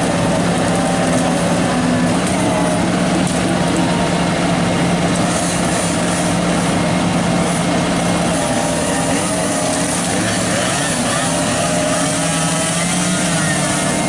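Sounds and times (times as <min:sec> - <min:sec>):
machine engine running steadily: 0:00.0 - 0:14.0.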